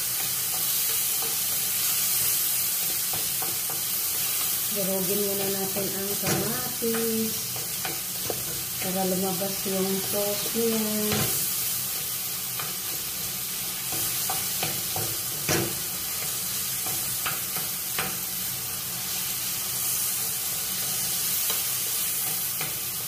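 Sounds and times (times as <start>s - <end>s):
tomatoes sizzling in oil: 0.0s - 23.0s.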